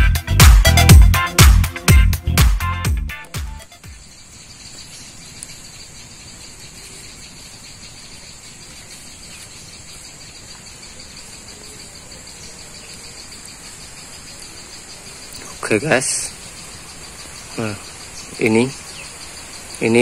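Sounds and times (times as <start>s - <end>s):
crickets chirping: 3.6s - 20.0s.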